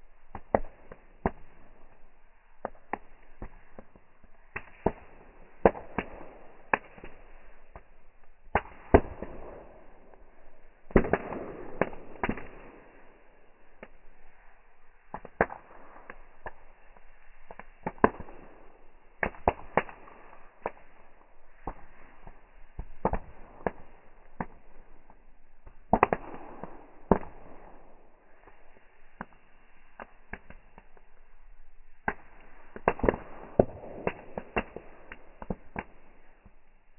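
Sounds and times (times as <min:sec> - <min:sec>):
fireworks bangs: 0:00.0 - 0:36.8.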